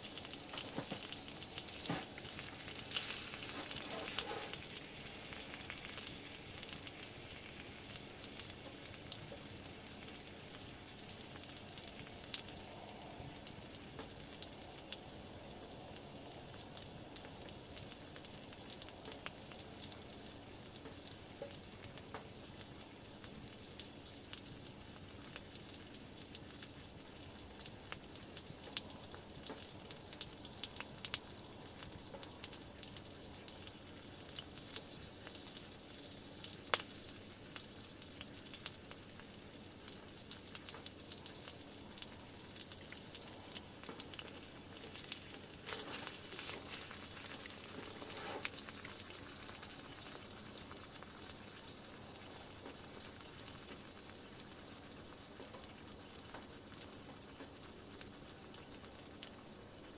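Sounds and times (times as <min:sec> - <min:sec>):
meat sizzling in a pan: 0:00.0 - 0:59.9.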